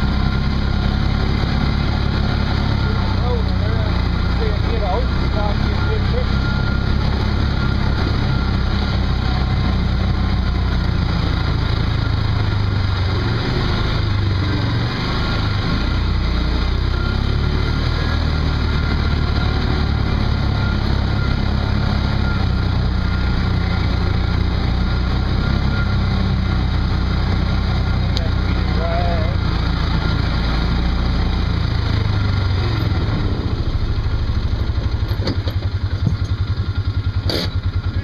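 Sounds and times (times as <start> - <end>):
off-road vehicle engine running: 0.0 - 38.0.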